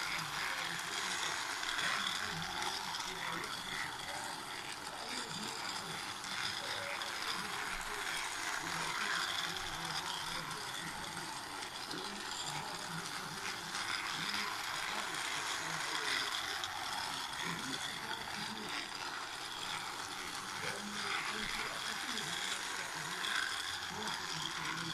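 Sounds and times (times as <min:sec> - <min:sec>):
toy train motor and gears: 0:00.0 - 0:24.9.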